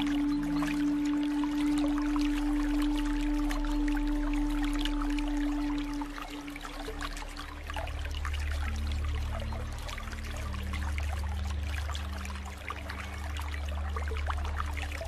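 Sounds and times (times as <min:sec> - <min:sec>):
soft held low music notes: 0:00.0 - 0:15.0
steady rain: 0:00.0 - 0:15.0.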